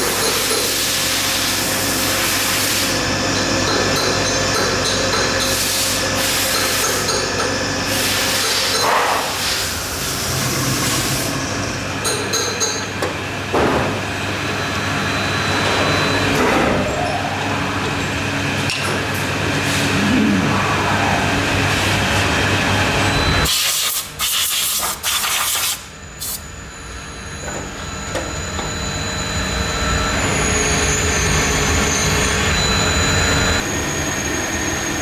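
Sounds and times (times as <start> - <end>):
factory machinery humming: 0.0 - 24.2, 25.8 - 35.0.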